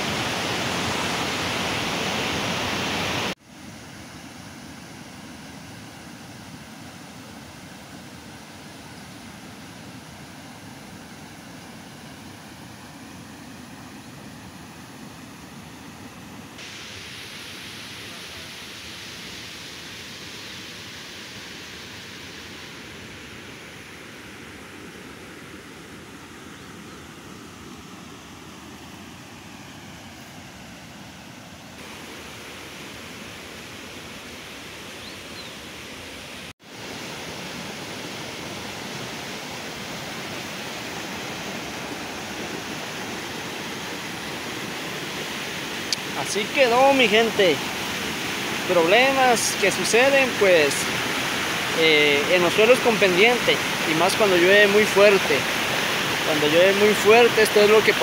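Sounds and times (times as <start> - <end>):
river rushing: 0.0 - 26.4, 27.1 - 58.0.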